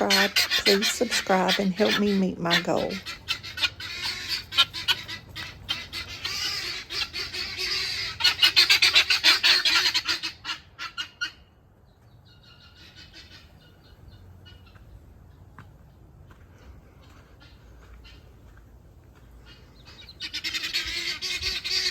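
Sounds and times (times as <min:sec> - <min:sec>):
guinea fowl cackling calls: 0:00.0 - 0:11.5, 0:12.3 - 0:15.0, 0:17.0 - 0:21.9.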